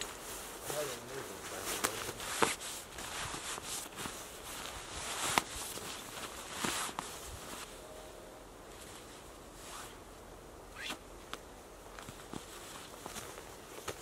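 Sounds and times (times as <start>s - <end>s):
sleeping bag rustling: 0.0s - 10.0s, 10.7s - 14.0s.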